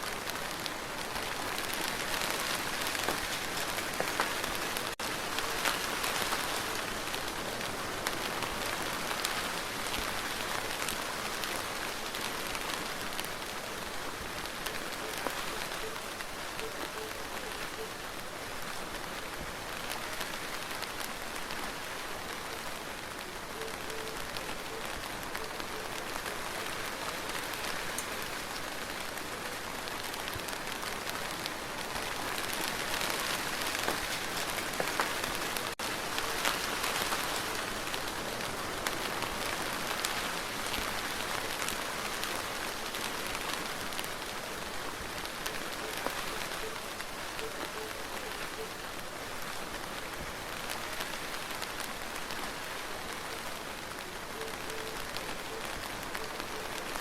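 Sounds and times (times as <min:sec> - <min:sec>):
raindrops ticking close by: 0:00.0 - 0:57.0
steady rain falling: 0:00.0 - 0:57.0.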